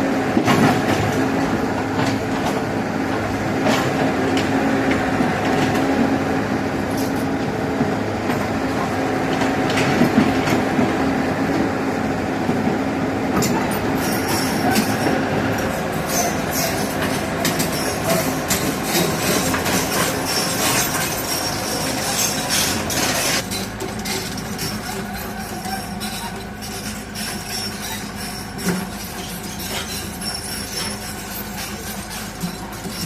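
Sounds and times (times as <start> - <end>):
diesel engine drone: 0.0 - 33.0
crawler tracks clanking and squealing: 0.4 - 11.8, 12.5 - 33.0.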